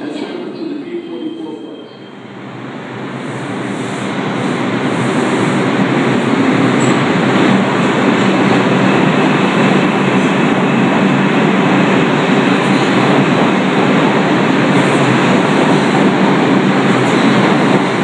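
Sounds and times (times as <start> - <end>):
subway train rumbling past: 0.0 - 18.0.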